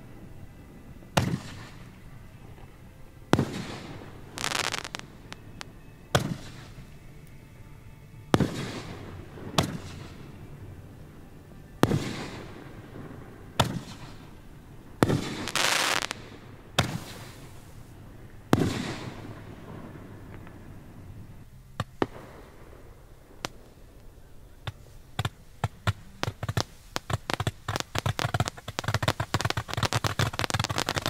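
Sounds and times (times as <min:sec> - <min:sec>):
hissing crackling firework bursts: 0:00.0 - 0:07.1, 0:08.3 - 0:31.0
firework bangs echoing: 0:00.9 - 0:02.6, 0:03.3 - 0:07.0, 0:08.3 - 0:11.0, 0:11.8 - 0:31.0.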